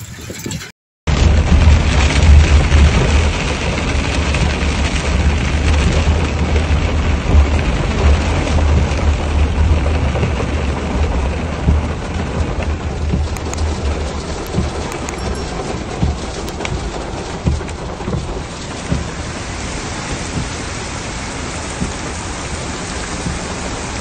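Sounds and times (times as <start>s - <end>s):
heavy rain on a car roof: 1.1s - 24.0s.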